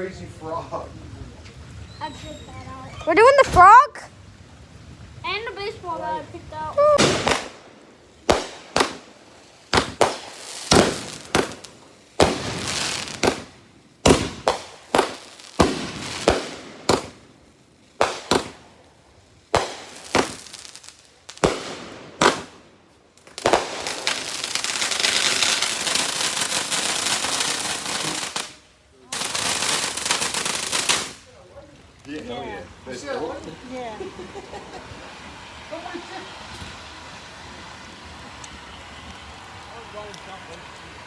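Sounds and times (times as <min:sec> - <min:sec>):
fireworks hissing crackling spray: 0:00.0 - 0:41.0
fireworks bangs: 0:00.8 - 0:31.4, 0:32.8 - 0:41.0.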